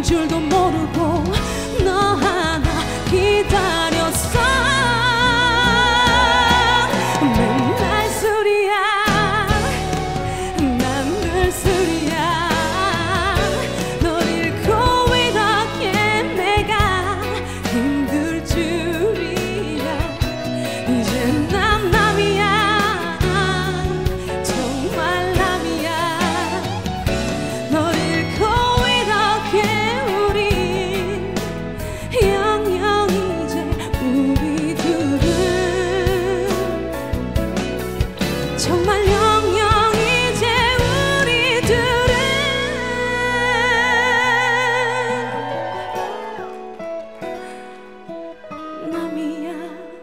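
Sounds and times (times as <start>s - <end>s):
instrumental accompaniment: 0.0s - 50.0s
woman singing pop ballad: 0.0s - 50.0s.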